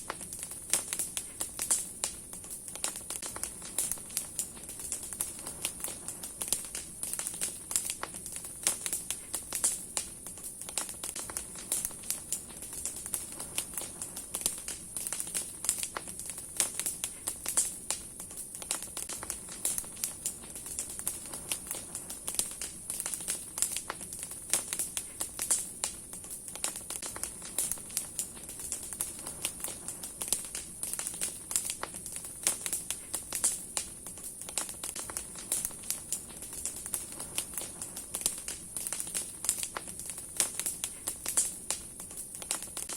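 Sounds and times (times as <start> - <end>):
fire pops and snaps: 0.0 - 42.9
soft fire hiss: 0.0 - 42.9
wood fire crackling: 0.0 - 42.9.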